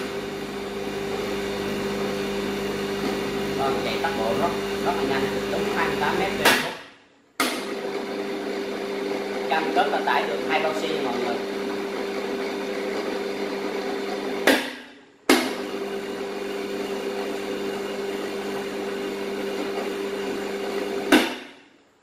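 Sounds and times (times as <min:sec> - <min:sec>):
electric winch motor running: 0:00.0 - 0:06.5, 0:07.5 - 0:14.5, 0:15.5 - 0:21.1.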